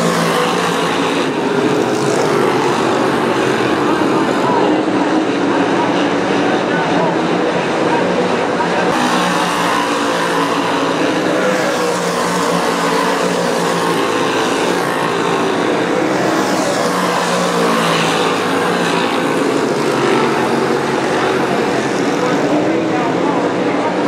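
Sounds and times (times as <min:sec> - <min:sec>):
race car engines running hard: 0:00.0 - 0:24.0.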